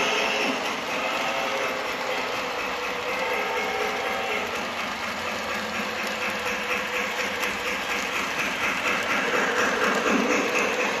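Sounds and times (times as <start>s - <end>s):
toy train motor hum: 0.0s - 11.0s
toy train wheels rattling: 0.0s - 11.0s.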